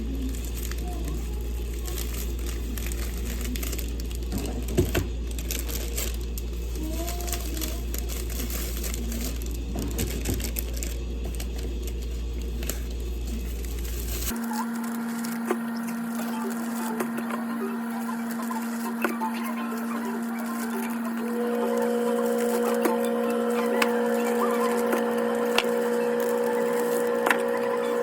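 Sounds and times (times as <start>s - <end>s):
crinkling: 0.0s - 28.0s.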